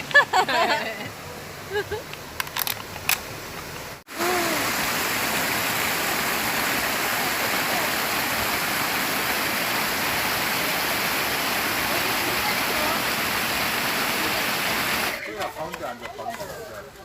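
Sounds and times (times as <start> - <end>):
stream water rushing: 0.0 - 15.3.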